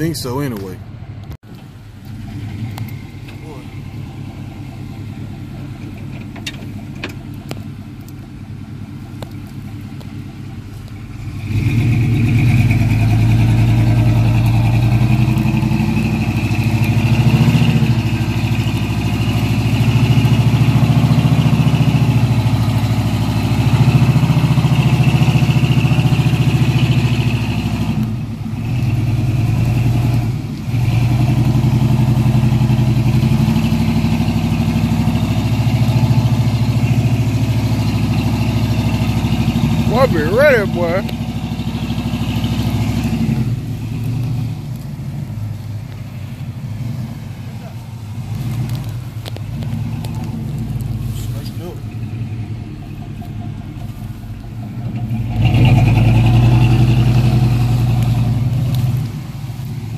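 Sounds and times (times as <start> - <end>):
pickup truck engine revving: 1.5 - 59.9.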